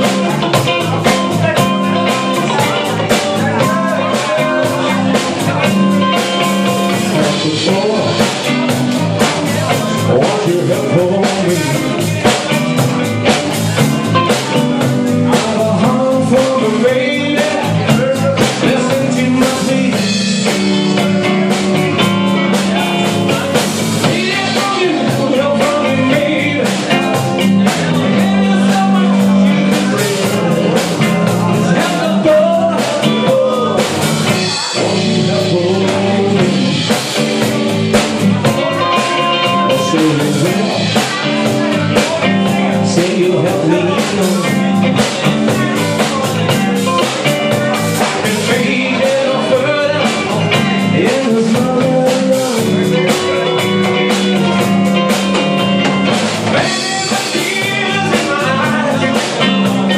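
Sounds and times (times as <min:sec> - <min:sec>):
bass guitar: 0:00.0 - 0:59.9
drum kit: 0:00.0 - 0:59.9
electric guitar: 0:00.0 - 0:59.9
lead vocal singing: 0:00.0 - 0:59.9.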